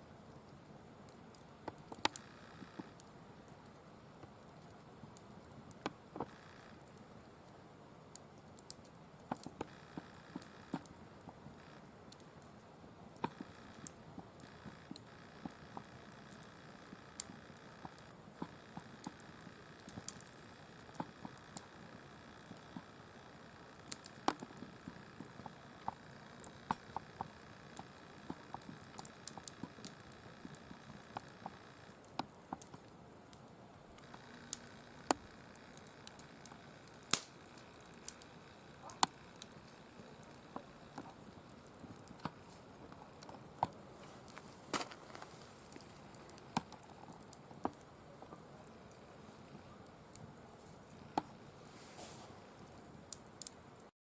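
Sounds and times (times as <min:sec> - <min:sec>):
fire low hiss: 0:00.0 - 0:53.9
firewood crackling and popping: 0:00.0 - 0:53.9.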